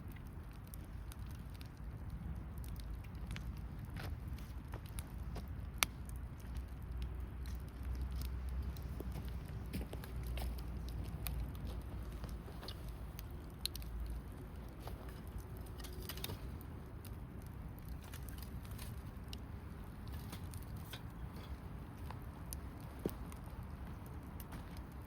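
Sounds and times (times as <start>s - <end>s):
low steady rumble: 0.0s - 25.0s
wood fire crackling: 0.0s - 25.0s.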